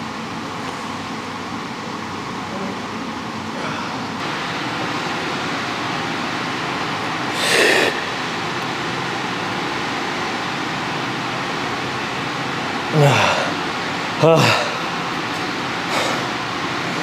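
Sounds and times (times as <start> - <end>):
air conditioning noise: 0.0 - 17.0.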